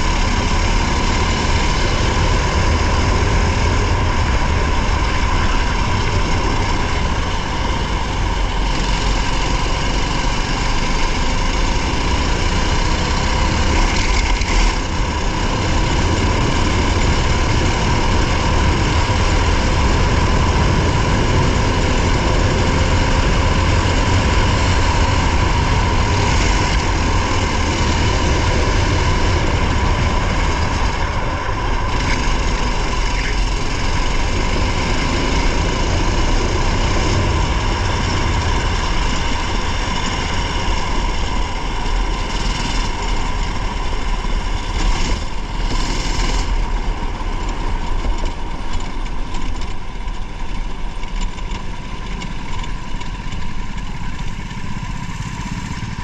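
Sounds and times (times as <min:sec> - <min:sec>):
racing car engine: 0:00.0 - 0:56.0
road and wind noise: 0:00.0 - 0:56.0.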